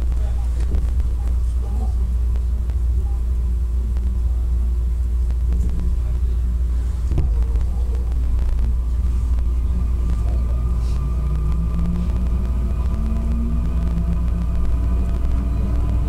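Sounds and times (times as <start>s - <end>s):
faint steady tones: 0.0s - 16.0s
train low rumble: 0.0s - 16.0s.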